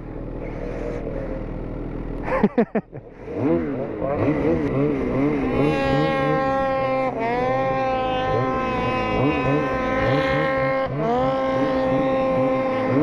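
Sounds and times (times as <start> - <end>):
snowmobile engine revving: 2.2 - 13.0.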